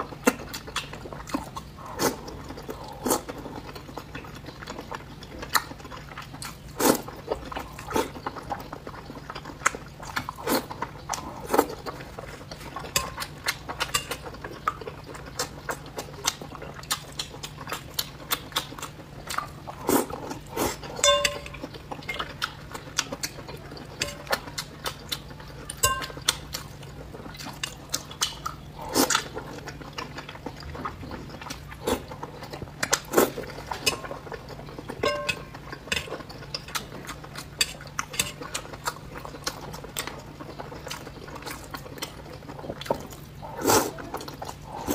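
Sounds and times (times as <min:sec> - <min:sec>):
low steady hum: 0:00.0 - 0:44.9
wet slurps and chewing: 0:00.0 - 0:44.9.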